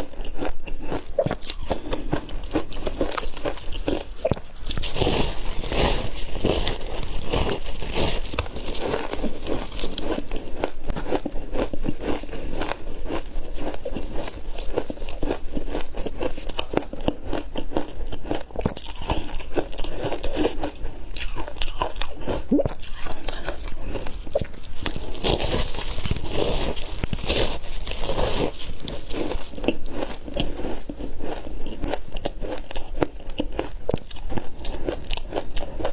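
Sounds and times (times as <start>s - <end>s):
chewing ice crunches: 0.0s - 35.9s.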